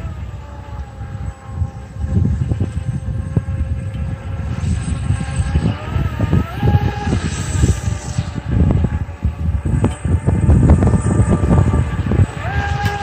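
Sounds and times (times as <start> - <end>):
heavy low rumble: 0.0 - 13.0
model boat motor whine: 0.0 - 13.0.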